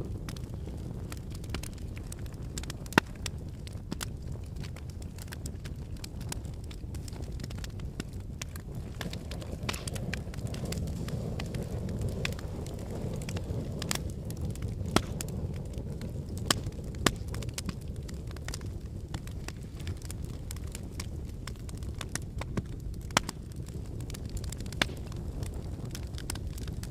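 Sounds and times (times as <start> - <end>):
fireplace logs crackling: 0.0 - 26.9.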